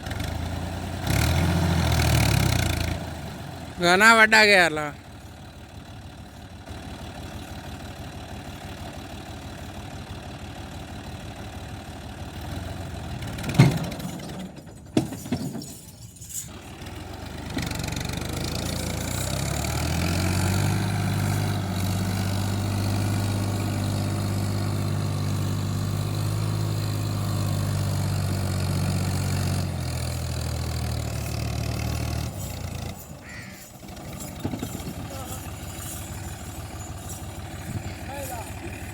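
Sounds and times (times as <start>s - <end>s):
tractor diesel engine: 0.0s - 38.9s.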